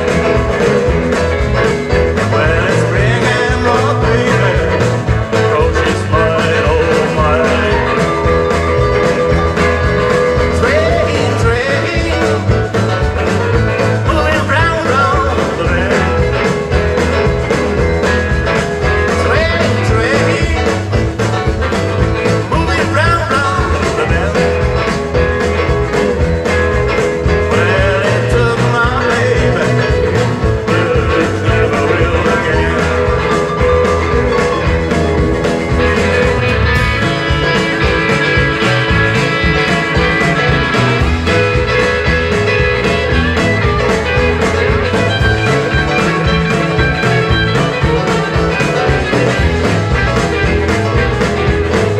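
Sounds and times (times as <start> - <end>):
bass guitar: 0.0 - 51.9
electric guitar melody: 0.0 - 51.9
steady drum beat: 0.0 - 51.9.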